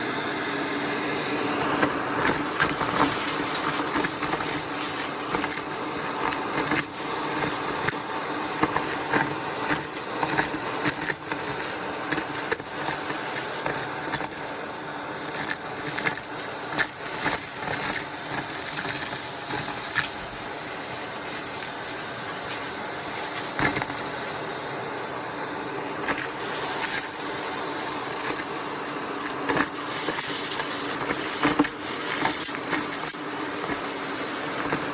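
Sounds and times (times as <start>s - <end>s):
vacuum cleaner running: 0.0s - 34.9s
debris crunching in nozzle: 1.7s - 24.2s, 26.0s - 34.9s.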